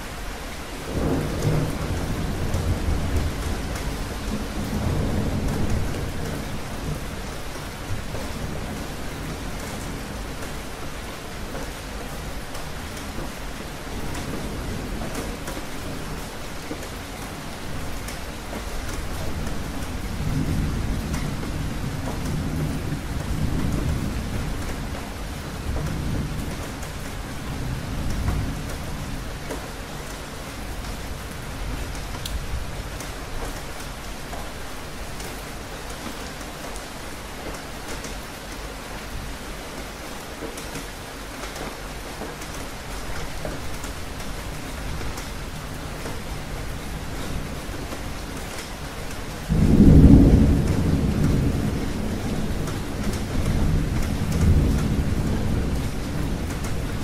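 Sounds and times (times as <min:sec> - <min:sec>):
steady rain falling: 0:00.0 - 0:57.0
low rumble of thunder: 0:00.8 - 0:33.4, 0:43.0 - 0:57.0.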